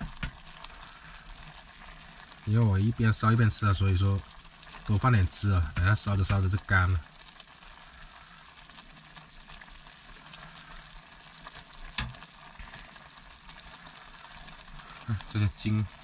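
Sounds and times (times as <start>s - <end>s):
meat sizzling and bubbling in pot: 0.0s - 16.0s.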